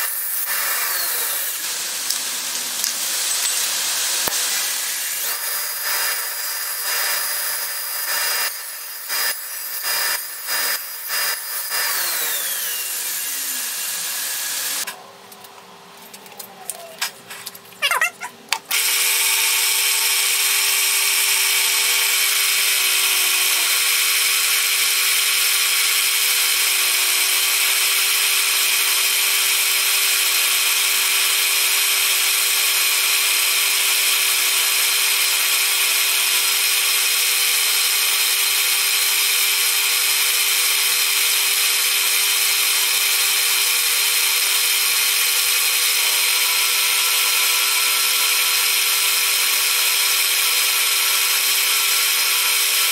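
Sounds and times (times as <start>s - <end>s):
drill press cutting metal: 0.0s - 14.9s, 18.7s - 52.9s.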